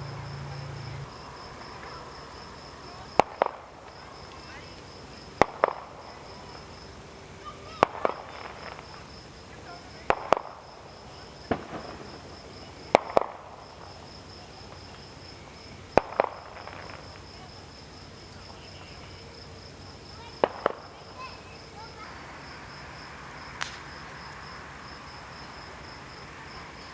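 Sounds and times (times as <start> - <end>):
fireworks bursting: 0.0 - 26.9
insects chirping: 0.0 - 26.9.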